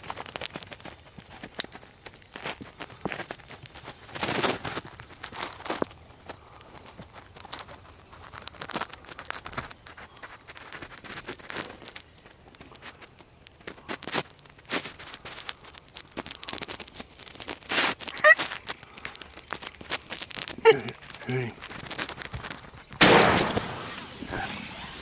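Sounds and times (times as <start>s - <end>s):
rustling and crinkling: 0.0s - 25.0s.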